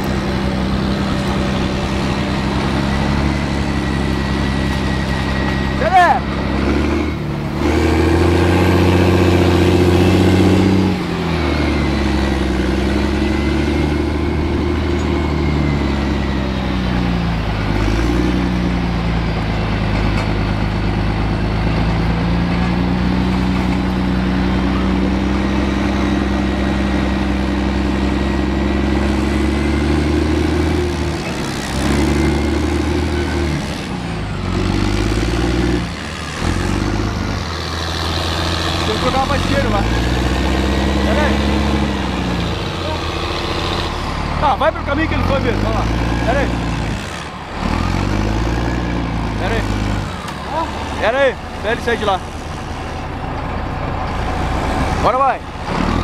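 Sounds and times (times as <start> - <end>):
armoured vehicle engine running: 0.0 - 56.0.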